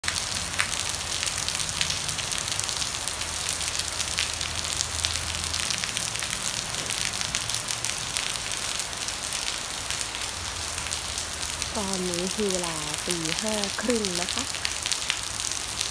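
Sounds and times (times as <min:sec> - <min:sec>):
steady rain on foliage: 0:00.0 - 0:15.9.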